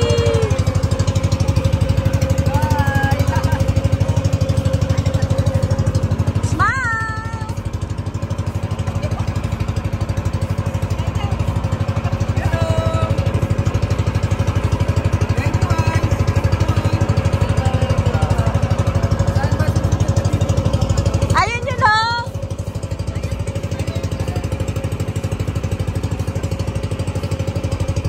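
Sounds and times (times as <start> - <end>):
small engine throbbing: 0.0 - 28.0.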